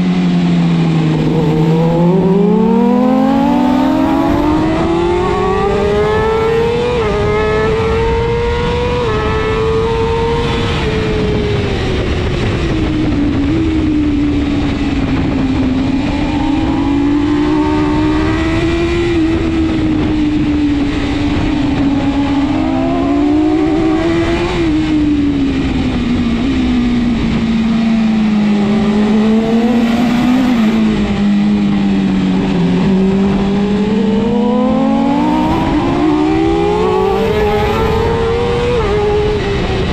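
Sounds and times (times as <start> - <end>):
motorcycle engine revving hard: 0.6 - 39.9.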